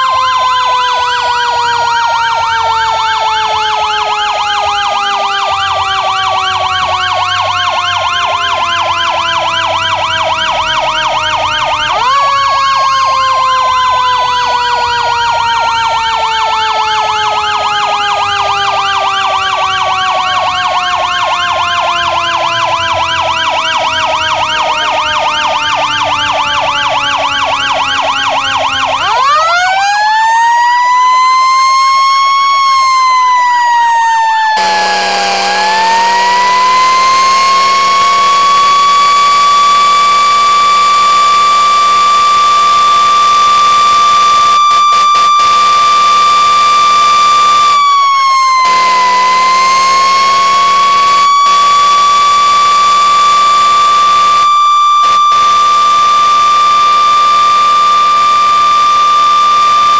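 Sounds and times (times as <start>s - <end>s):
electronic siren yelping: 0.0s - 59.9s.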